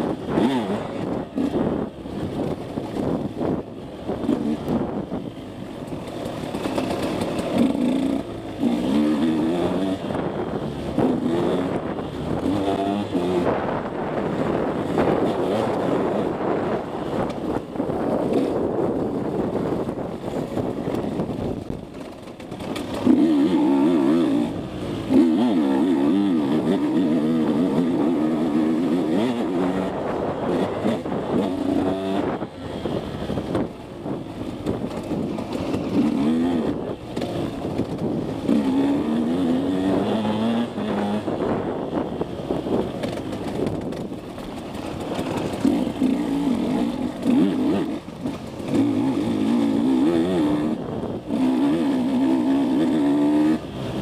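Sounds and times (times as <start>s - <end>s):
dirt bike engine revving: 0.0s - 5.2s, 6.0s - 21.4s, 22.5s - 54.0s.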